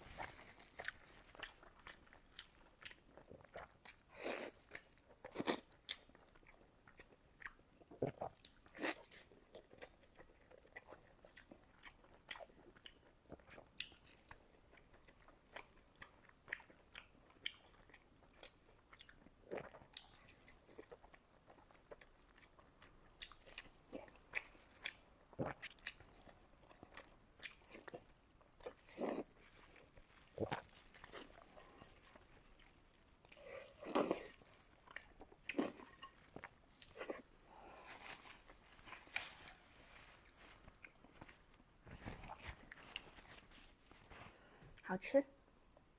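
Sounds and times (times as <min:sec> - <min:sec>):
person chewing food: 0:00.0 - 0:44.8.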